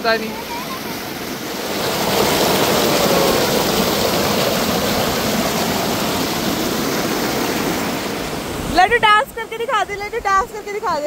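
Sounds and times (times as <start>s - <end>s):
waterfall water rushing: 0.0s - 9.2s.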